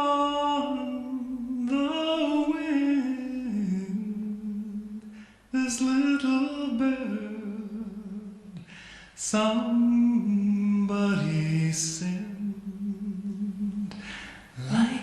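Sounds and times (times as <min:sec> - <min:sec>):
person singing slow song: 0:00.0 - 0:15.0.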